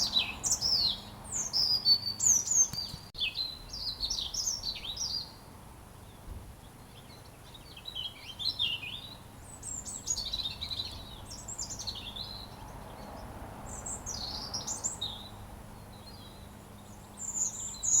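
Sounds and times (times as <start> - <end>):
robin singing: 0.0 - 5.4, 6.8 - 18.0.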